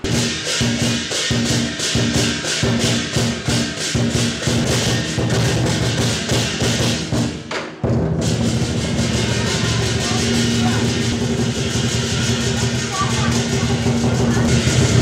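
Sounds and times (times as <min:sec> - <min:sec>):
crashing cymbals: 0:00.0 - 0:15.0
drum beating fast rhythm: 0:00.0 - 0:15.0.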